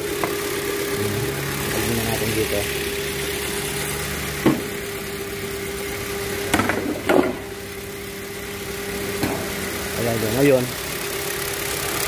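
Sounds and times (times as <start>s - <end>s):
car engine idling roughly: 0.0s - 12.0s.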